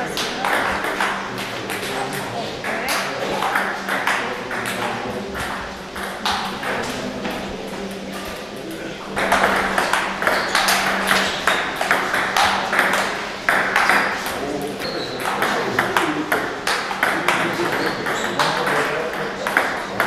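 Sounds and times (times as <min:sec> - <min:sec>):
table tennis balls clicking: 0:00.0 - 0:20.0.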